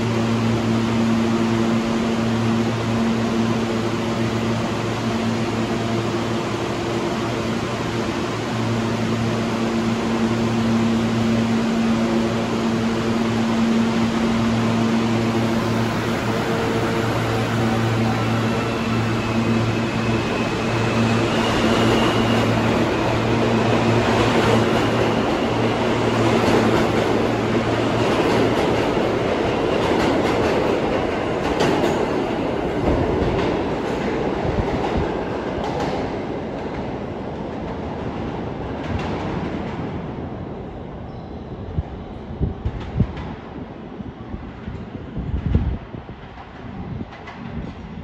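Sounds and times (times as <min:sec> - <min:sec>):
subway train rail rumble: 0:00.0 - 0:48.0.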